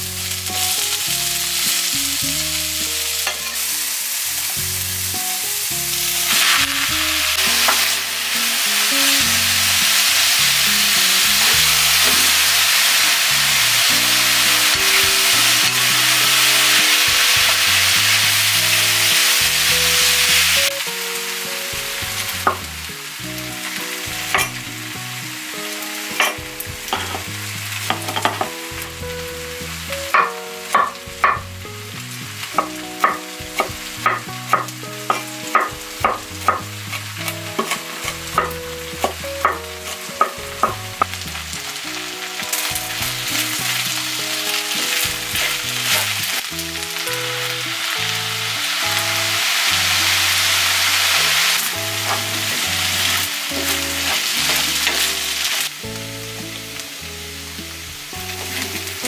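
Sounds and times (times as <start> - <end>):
food sizzling in a wok: 0.0 - 59.0
soft background melody: 0.0 - 59.0.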